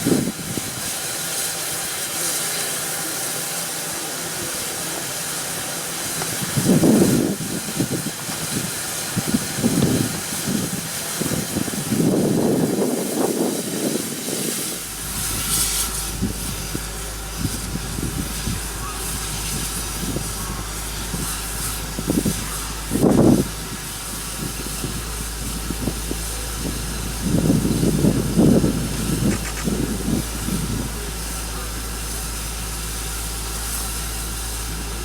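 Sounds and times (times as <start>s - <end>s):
steam locomotive hissing: 0.0s - 35.0s
low rumbles: 6.4s - 35.0s.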